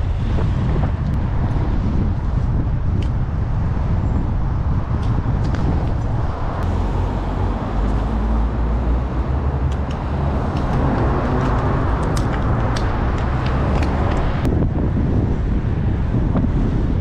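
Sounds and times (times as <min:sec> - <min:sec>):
bicycle tyre and road noise: 0:00.0 - 0:17.0
wind rumbling on microphone: 0:00.0 - 0:17.0.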